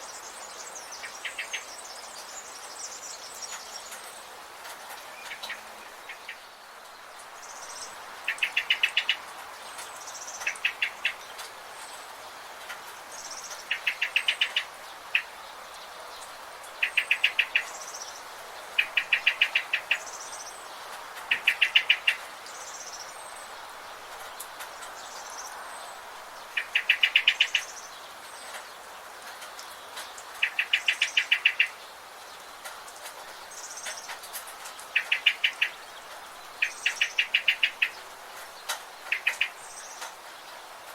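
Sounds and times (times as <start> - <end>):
steady background hiss: 0.0 - 40.9.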